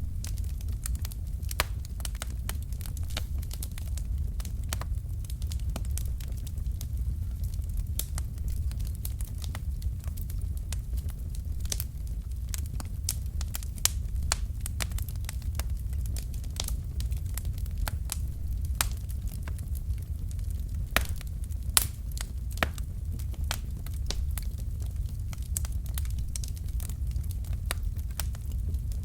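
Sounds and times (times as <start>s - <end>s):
logs crackling and popping: 0.0s - 29.0s
low rumble of flames: 0.0s - 29.0s.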